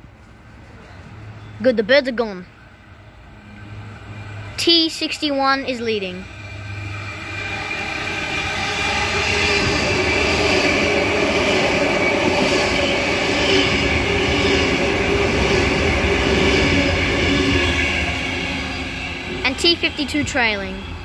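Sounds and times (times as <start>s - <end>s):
wheels rushing on rail: 2.5s - 21.0s
train whine: 2.6s - 21.0s.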